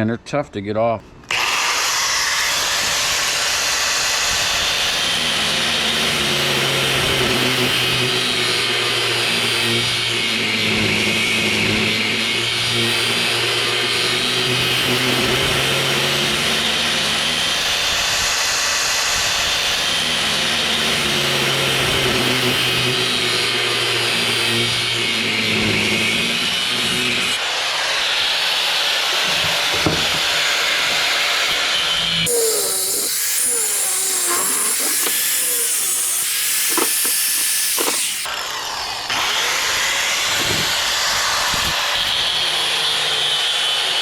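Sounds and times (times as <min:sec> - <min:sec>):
power tool motor under load: 0:01.3 - 0:42.9.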